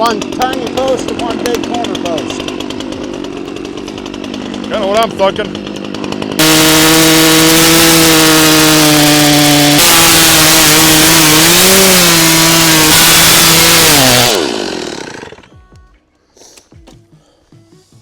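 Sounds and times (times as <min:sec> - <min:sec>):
chainsaw cutting wood: 0:00.0 - 0:15.6.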